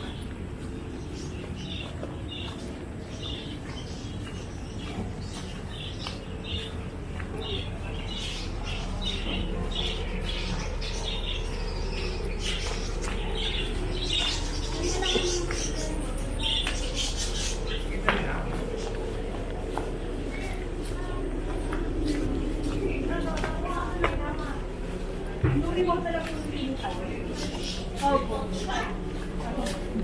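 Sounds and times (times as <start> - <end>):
low background rumble: 0.0 - 30.0
small birds chirping: 0.0 - 30.0.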